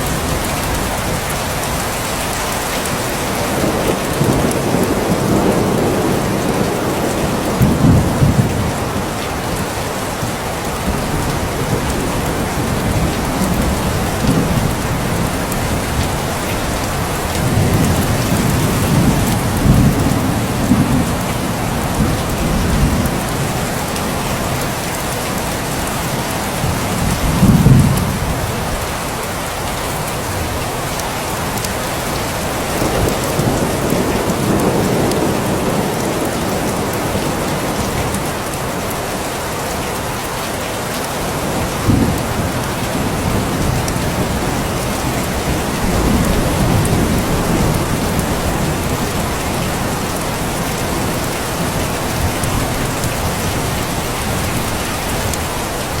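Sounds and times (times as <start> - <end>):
thunder rumbles: 0.0 - 28.9, 32.0 - 38.6, 41.3 - 56.0
heavy rain hissing: 0.0 - 56.0.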